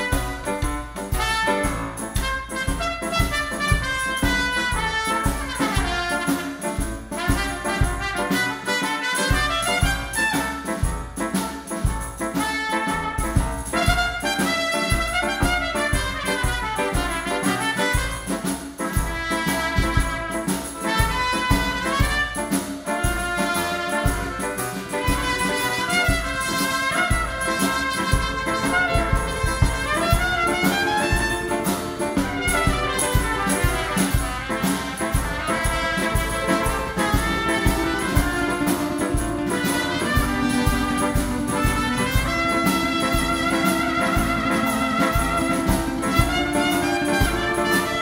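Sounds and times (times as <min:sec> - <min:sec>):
accordion: 0:00.0 - 0:48.0
congas: 0:00.0 - 0:48.0
drum kit beat: 0:00.0 - 0:48.0
piano: 0:00.0 - 0:48.0
trumpet melody: 0:00.0 - 0:48.0.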